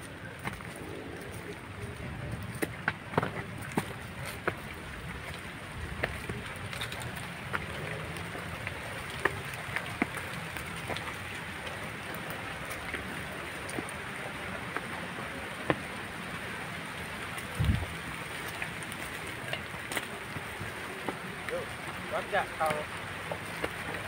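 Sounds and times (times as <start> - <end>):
footsteps on rocky trail: 0.0 - 16.3, 17.2 - 24.0.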